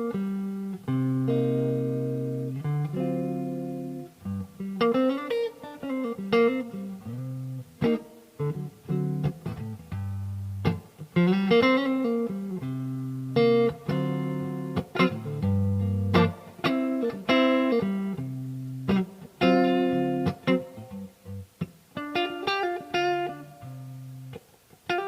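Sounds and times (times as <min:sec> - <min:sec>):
clean electric guitar playing: 0:00.0 - 0:25.0.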